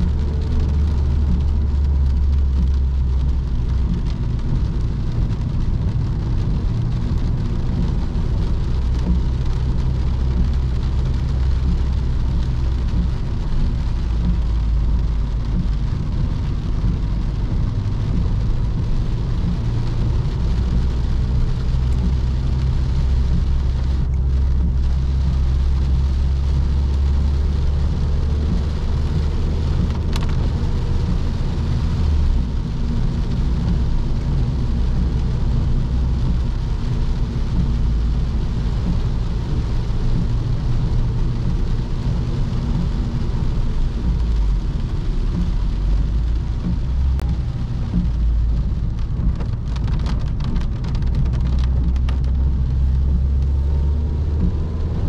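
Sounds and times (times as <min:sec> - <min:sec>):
car engine running: 0:00.0 - 0:55.0
tyre and road noise: 0:00.0 - 0:55.0.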